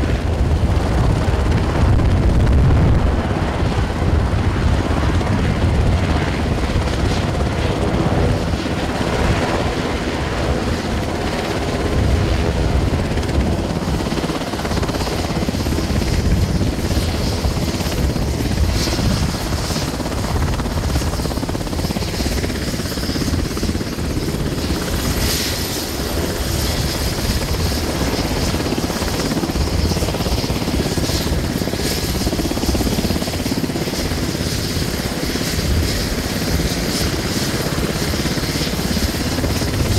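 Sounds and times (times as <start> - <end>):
helicopter rotor beating: 0.0 - 39.9.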